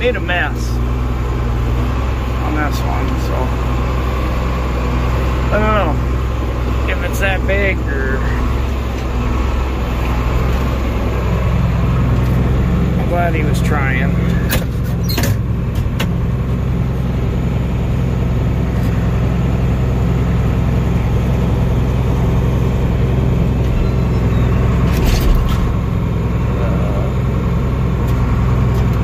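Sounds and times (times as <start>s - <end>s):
tractor engine droning: 0.0s - 29.0s.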